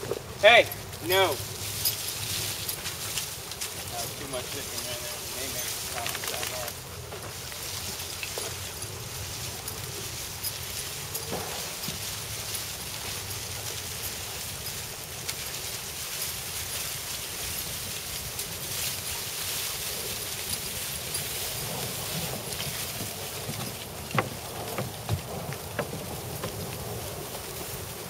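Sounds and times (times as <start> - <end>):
dry leaves crunching underfoot: 0.0 - 28.0.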